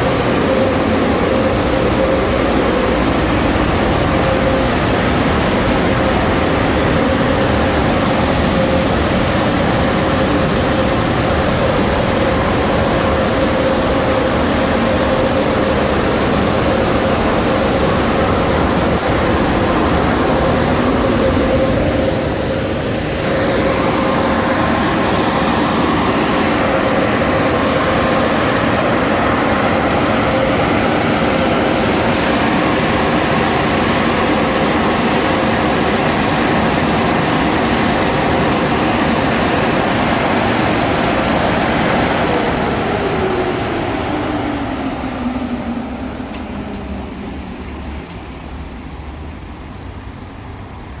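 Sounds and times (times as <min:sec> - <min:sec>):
blowers spinning down whine: 0:00.0 - 0:51.0
car wash dryer blowers: 0:00.0 - 0:51.0.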